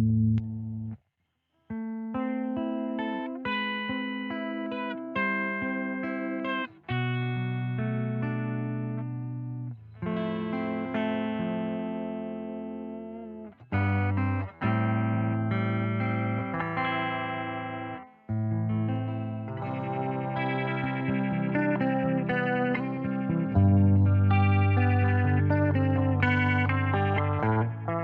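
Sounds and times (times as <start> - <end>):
electric guitar chords ringing: 0.0 - 1.0, 1.7 - 28.0.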